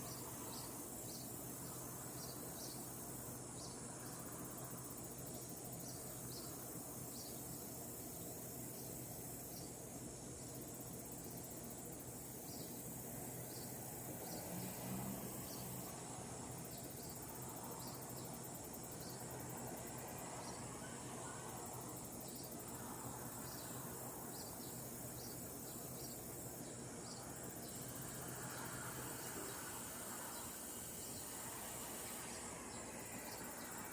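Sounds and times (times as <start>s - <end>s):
insect trill: 0.0s - 33.9s
low-pitched insect chirps: 0.0s - 33.9s.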